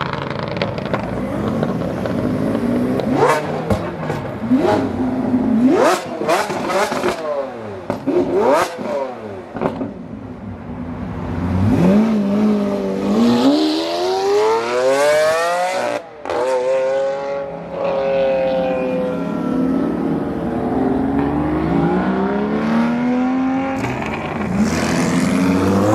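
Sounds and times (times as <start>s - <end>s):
car engine revving: 0.0s - 9.9s, 11.4s - 25.9s.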